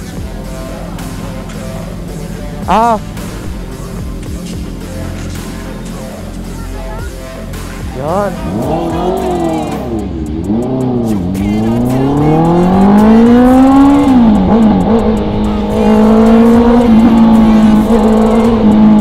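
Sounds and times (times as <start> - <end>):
motorcycle engine accelerating: 0.0 - 6.5, 7.8 - 19.0.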